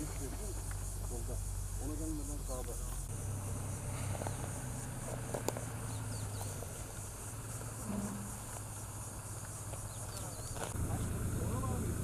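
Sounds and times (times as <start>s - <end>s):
cicadas buzzing: 0.0s - 12.0s
diesel truck engine idling: 0.0s - 12.0s.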